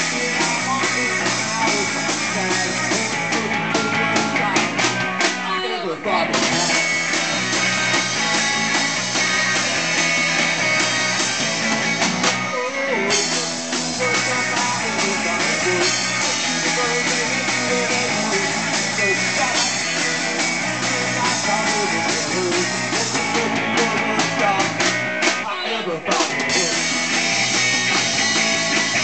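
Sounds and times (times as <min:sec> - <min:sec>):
drum kit: 0:00.0 - 0:29.0
electric guitar: 0:00.0 - 0:29.0
rock band playing: 0:00.0 - 0:29.0.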